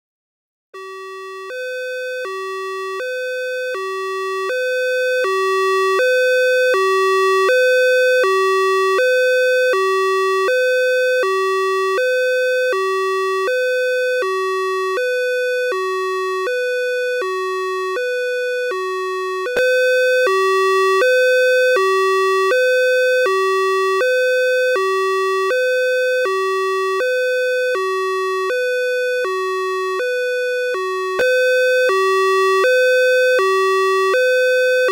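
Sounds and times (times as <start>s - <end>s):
two-tone ambulance siren: 0.8s - 34.9s.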